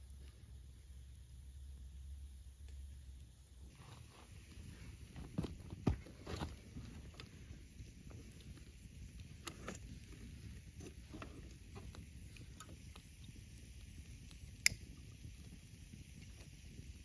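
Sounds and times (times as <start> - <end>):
campfire burning with low rumble: 0.0 - 17.0
fire crackling: 0.0 - 17.0.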